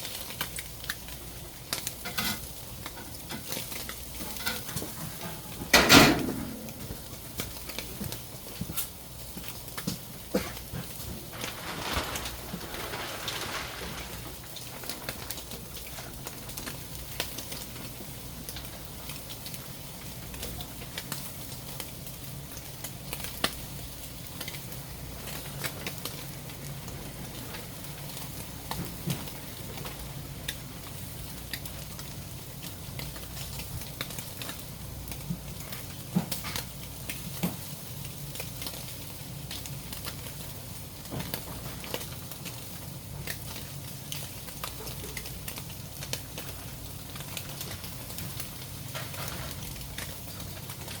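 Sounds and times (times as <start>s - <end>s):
food sizzling on a grill: 0.0s - 51.0s
grease crackling and popping: 0.0s - 51.0s.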